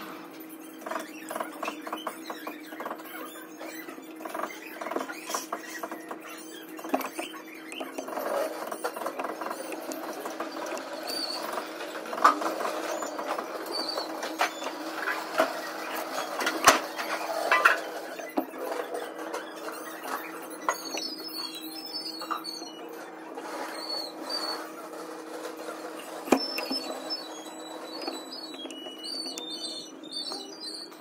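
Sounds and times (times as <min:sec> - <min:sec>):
wire coils rustling and scraping: 0:00.0 - 0:30.7.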